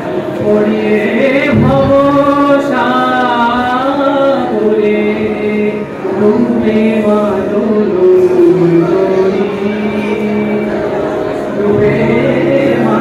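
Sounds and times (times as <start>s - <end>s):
voices singing slow melody: 0.0s - 13.0s.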